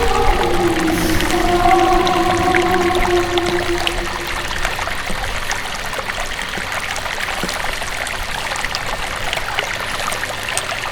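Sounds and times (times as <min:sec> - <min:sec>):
water trickling and babbling: 0:00.0 - 0:10.9.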